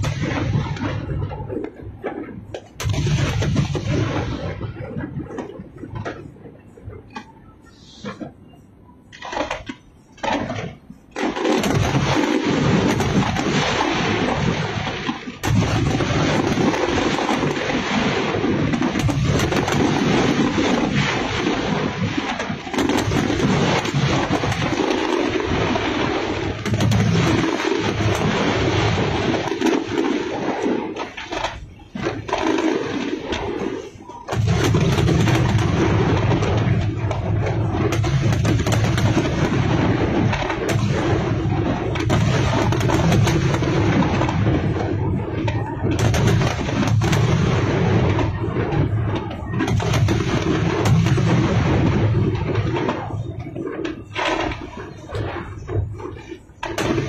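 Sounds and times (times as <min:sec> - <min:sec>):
fireworks crackle: 0:00.0 - 0:57.0
fireworks exploding: 0:00.0 - 0:57.0.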